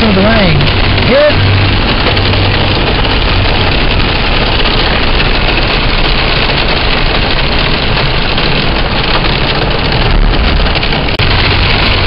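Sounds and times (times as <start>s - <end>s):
rain and hail on car roof: 0.0s - 12.0s.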